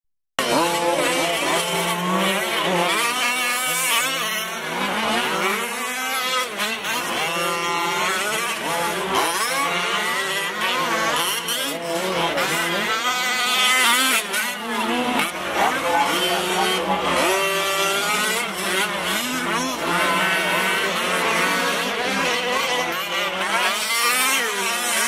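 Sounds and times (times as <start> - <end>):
rc truck engines revving: 0.4 - 25.0.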